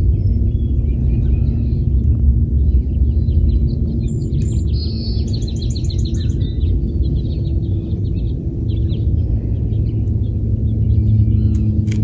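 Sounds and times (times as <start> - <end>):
songbirds chirping: 0.0 - 12.0
steady low rumble: 0.0 - 12.0.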